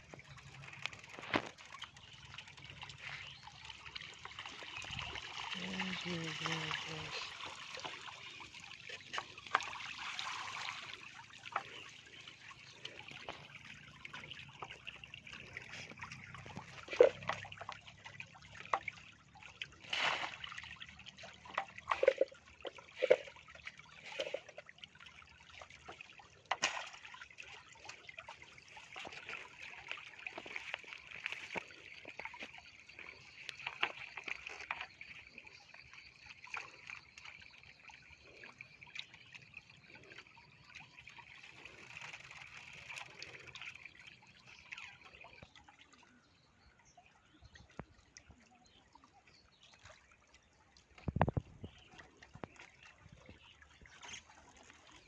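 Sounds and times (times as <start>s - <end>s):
shallow water trickling: 0.0s - 55.0s
small water splashes: 0.0s - 55.0s.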